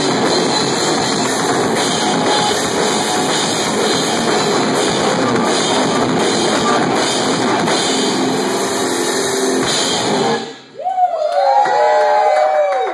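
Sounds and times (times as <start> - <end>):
heavy rock band playing live: 0.0 - 10.6.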